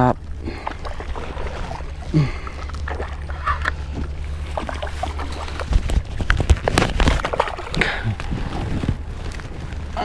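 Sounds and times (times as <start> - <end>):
fish splashing in water: 0.3 - 8.5.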